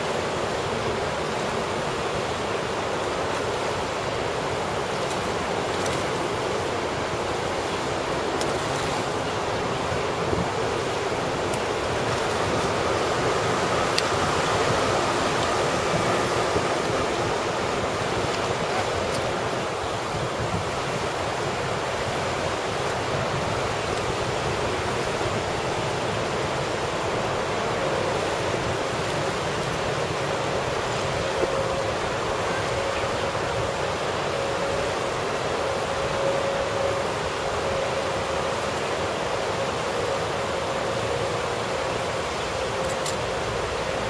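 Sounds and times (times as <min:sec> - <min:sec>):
rushing water: 0:00.0 - 0:44.0.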